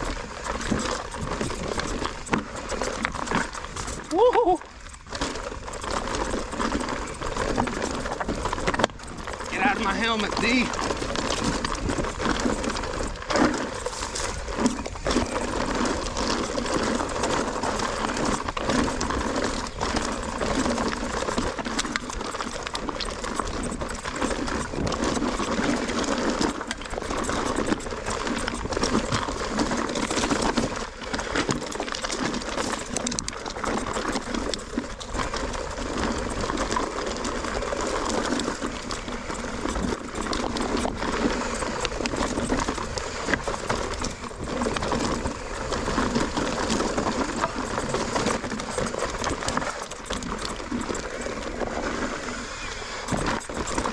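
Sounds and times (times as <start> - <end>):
mountain bike rattling: 0.0 - 53.9
wheels knocking on rocks: 0.0 - 53.9.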